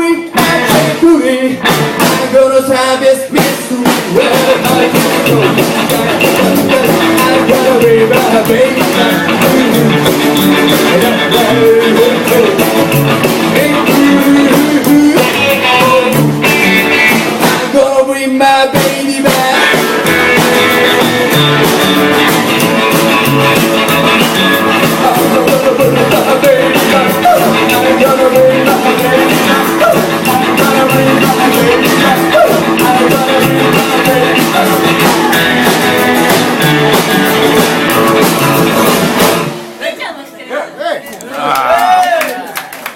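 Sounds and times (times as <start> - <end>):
steady drum beat: 0.0 - 18.0, 18.7 - 39.8
rock band playing: 0.0 - 40.0
guitar: 0.0 - 40.4.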